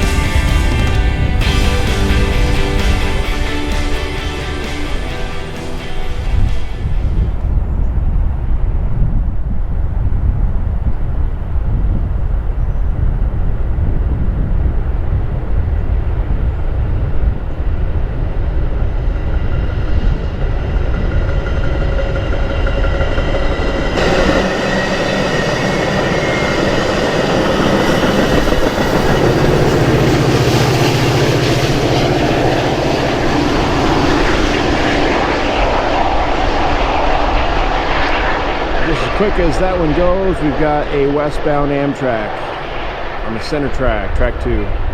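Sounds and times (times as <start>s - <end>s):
train passing with heavy rumble: 0.0s - 44.9s.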